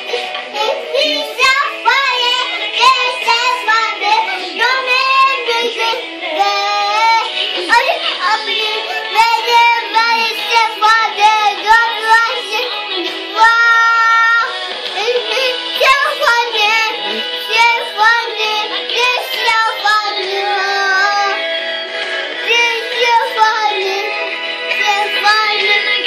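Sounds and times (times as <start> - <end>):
girl singing: 0.0 - 21.5, 22.4 - 26.0
backing music: 0.0 - 26.0.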